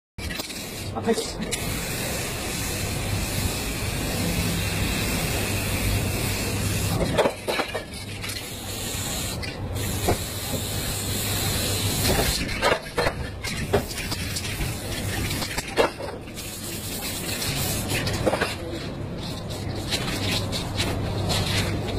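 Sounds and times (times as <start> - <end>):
spray paint cans hissing: 0.2 - 21.9
steady low hum: 0.2 - 21.9.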